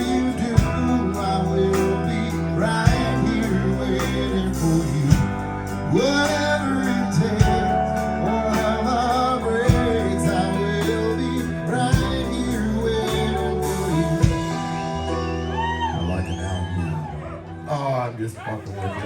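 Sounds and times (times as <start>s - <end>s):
live country ballad band: 0.0s - 18.2s.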